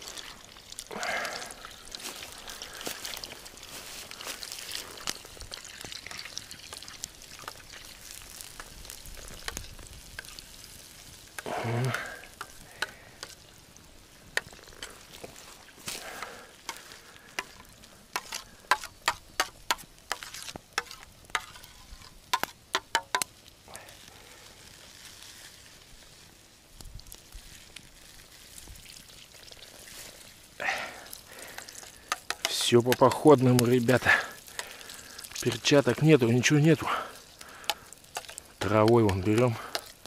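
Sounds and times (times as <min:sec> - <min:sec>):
paste sizzling in a pan: 0:00.0 - 0:40.0.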